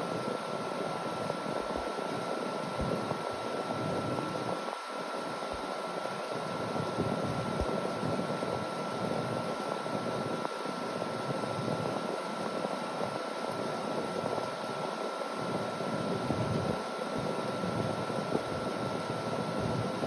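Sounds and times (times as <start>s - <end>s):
air conditioner fan blowing: 0.0s - 20.0s
thin constant whine: 0.0s - 20.0s.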